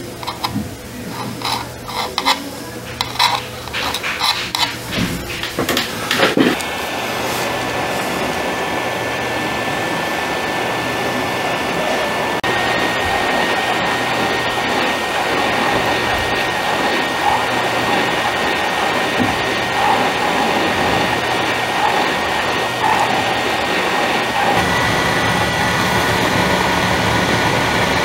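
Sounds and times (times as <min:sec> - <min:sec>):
hot-air blower whining: 0:00.0 - 0:28.0.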